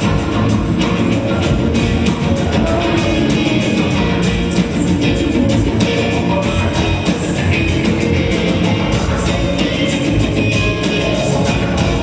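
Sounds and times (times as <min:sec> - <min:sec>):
bass: 0:00.0 - 0:12.0
drum kit beat: 0:00.0 - 0:12.0
electric guitar: 0:00.0 - 0:12.0.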